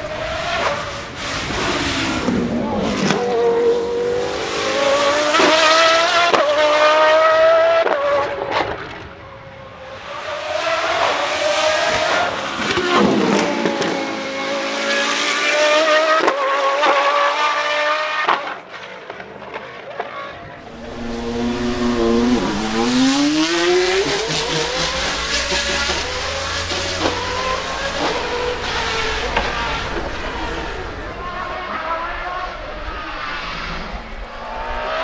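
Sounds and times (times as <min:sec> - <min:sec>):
race car engine passing at high revs: 0:00.0 - 0:19.0, 0:19.6 - 0:35.0.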